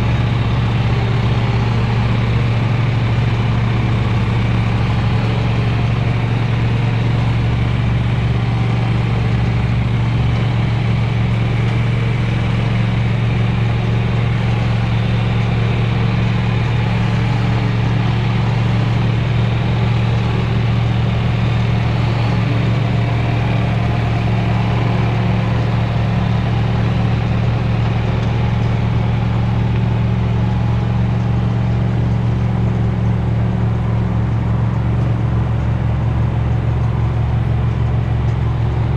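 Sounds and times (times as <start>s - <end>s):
motor humming steadily: 0.0s - 38.9s.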